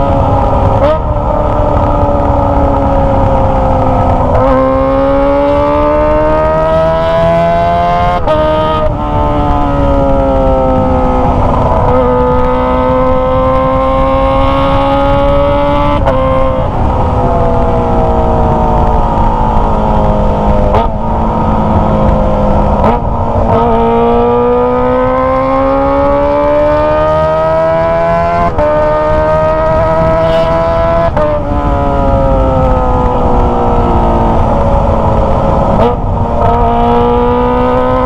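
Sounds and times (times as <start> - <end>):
motorcycle engine under way: 0.0 - 38.0.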